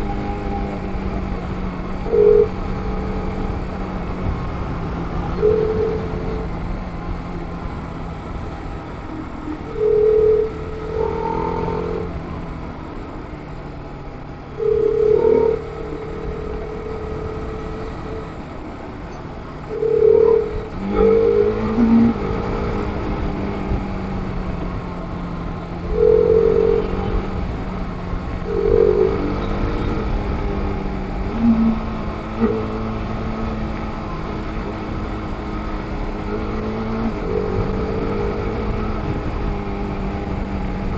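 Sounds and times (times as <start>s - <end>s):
horn honking: 0.0s - 12.6s, 14.4s - 18.8s, 19.5s - 27.6s, 28.2s - 40.9s
motorcycle engine running: 0.0s - 40.9s
wind noise: 0.0s - 40.9s.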